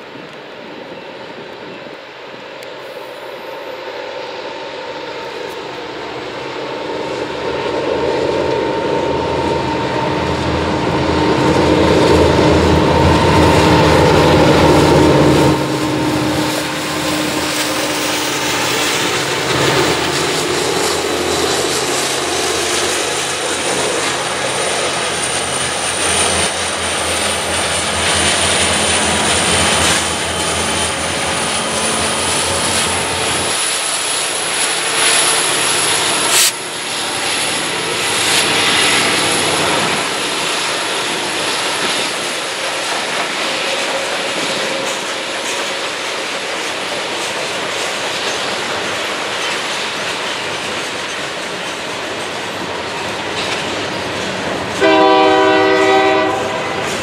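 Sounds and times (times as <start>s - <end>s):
diesel locomotives passing: 0.0s - 57.0s
train wheels clattering on rails: 6.6s - 57.0s.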